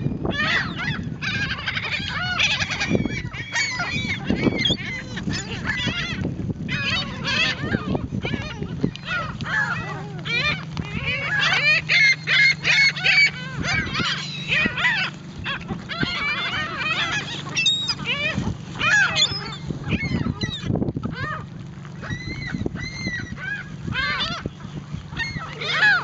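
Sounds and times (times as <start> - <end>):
seagulls calling: 0.0 - 26.0.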